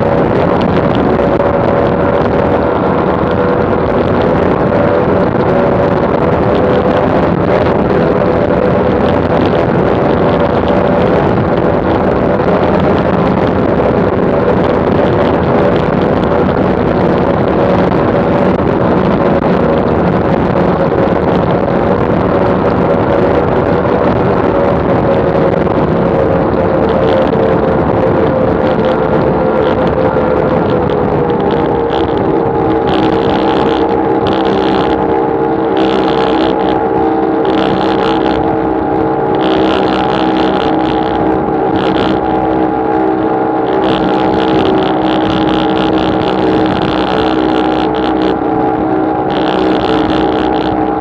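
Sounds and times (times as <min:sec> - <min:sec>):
outboard engines droning: 0:00.0 - 0:51.0
wind and spray rushing: 0:00.0 - 0:51.0.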